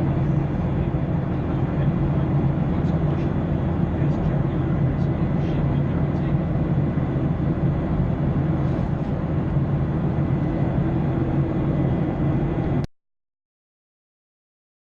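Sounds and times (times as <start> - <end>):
airplane cabin rumble: 0.0 - 12.9.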